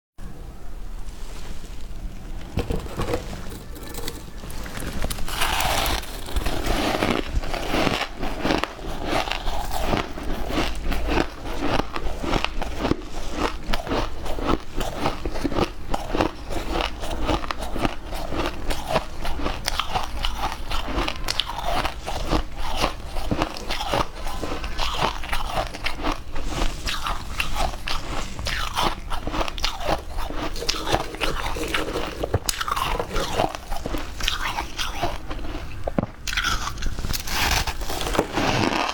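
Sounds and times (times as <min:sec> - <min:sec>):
ice crunching between teeth: 0:02.8 - 0:38.9.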